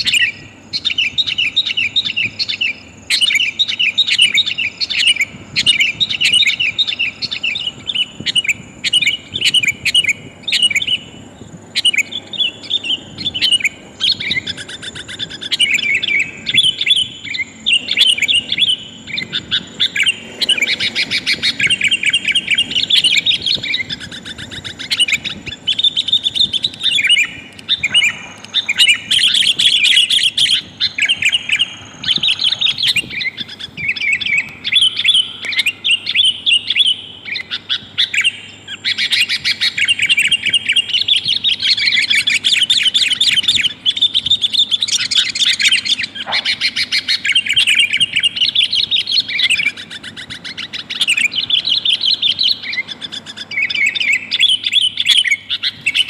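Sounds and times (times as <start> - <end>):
bird calling in chattering bursts: 0.0 - 56.0.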